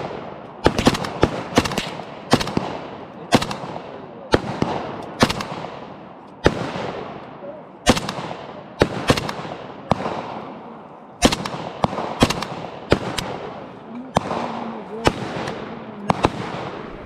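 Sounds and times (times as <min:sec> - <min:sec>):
rifle single shots echoing: 0:00.0 - 0:17.0.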